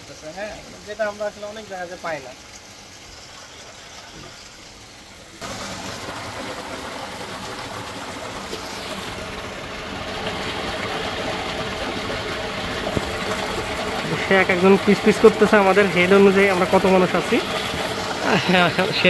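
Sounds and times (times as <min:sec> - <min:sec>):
water gushing into a tank: 0:00.1 - 0:19.0.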